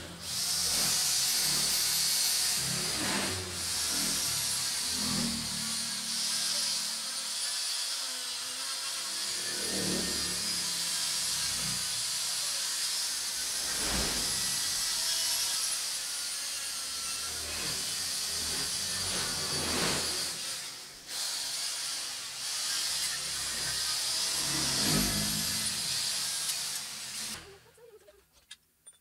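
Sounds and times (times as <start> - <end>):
electric power tool scrubbing: 0.0 - 27.5.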